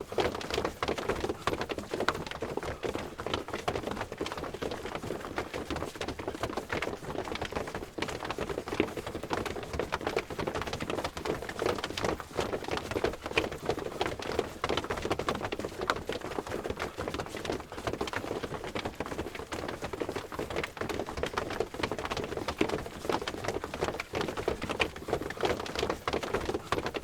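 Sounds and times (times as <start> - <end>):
crowd footsteps: 0.0 - 27.0.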